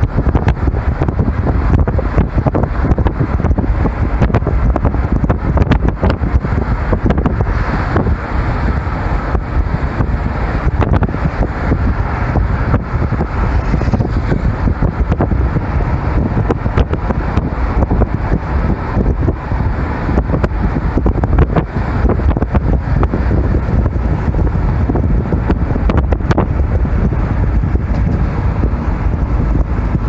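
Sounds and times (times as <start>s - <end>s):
car driving at speed: 0.0s - 30.0s.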